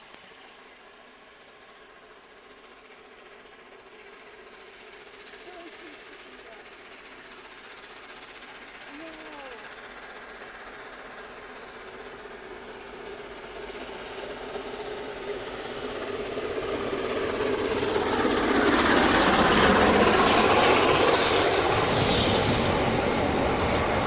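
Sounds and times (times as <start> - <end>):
steam locomotive passing: 0.0 - 24.0.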